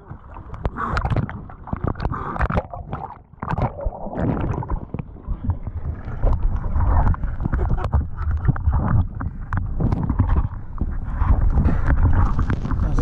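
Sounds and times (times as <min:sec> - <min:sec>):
muffled underwater churning: 0:00.0 - 0:13.0
sea water splashing: 0:00.0 - 0:13.0.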